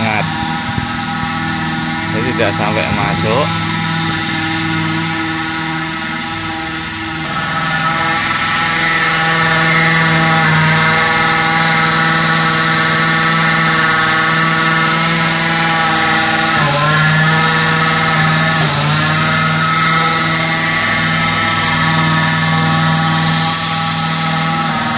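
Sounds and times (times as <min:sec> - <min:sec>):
fogging machine engine running: 0:00.0 - 0:24.9.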